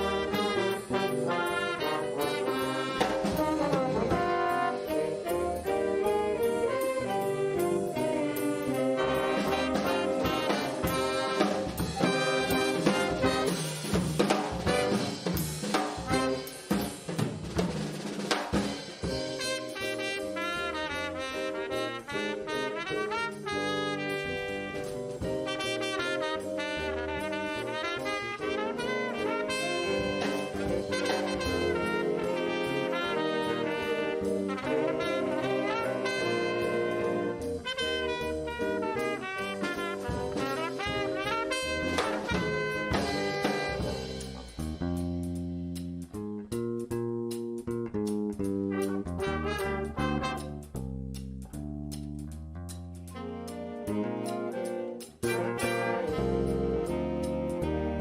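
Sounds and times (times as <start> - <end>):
brass band playing jazz: 0.0 - 58.0.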